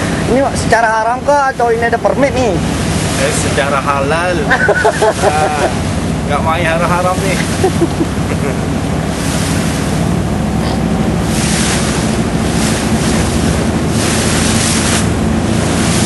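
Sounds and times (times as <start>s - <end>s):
motorboat engine running: 0.0s - 16.0s
water rushing from wake: 0.0s - 16.0s
wind buffeting microphone: 2.0s - 16.0s.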